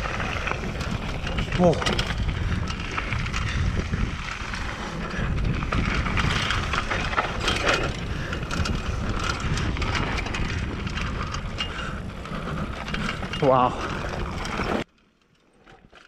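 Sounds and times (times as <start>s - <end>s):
bike rattling and knocking: 0.0s - 16.0s
bike tyres on loose dirt: 0.0s - 16.0s.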